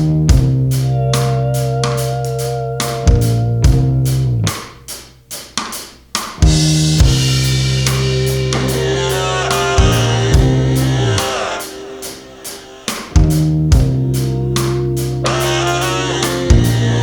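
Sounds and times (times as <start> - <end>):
rock music with drums bass guitar: 0.0 - 5.0, 6.2 - 17.0.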